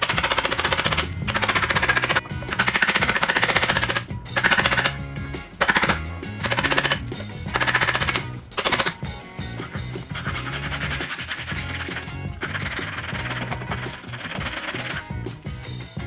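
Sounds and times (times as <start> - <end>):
fast even rattling: 0.0 - 15.2
background music with bass line: 0.0 - 16.0.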